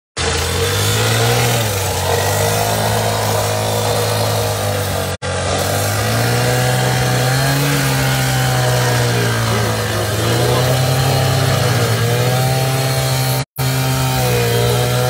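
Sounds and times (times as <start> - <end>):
cut-off saw cutting steel: 0.2 - 15.0.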